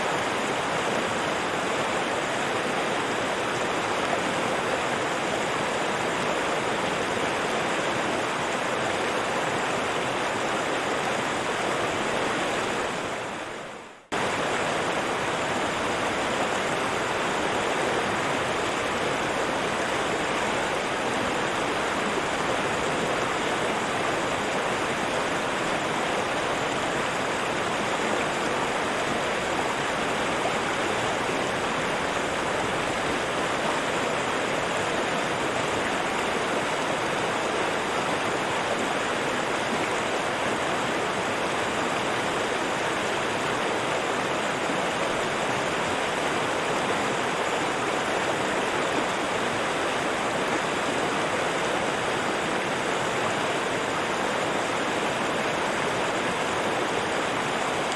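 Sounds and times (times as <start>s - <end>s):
river water rushing over rocks: 0.0s - 57.9s.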